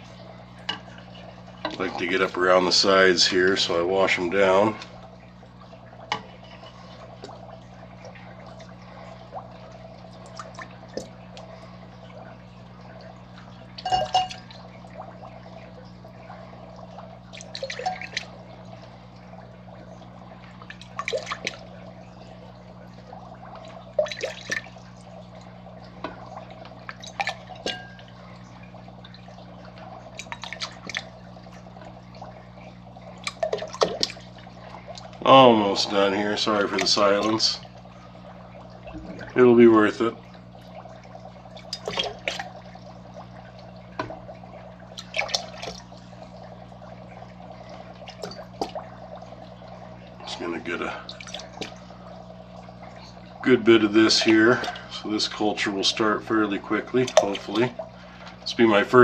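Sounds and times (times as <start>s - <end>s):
baster squirting water: 0.0s - 59.0s
steady low hum: 0.0s - 59.0s.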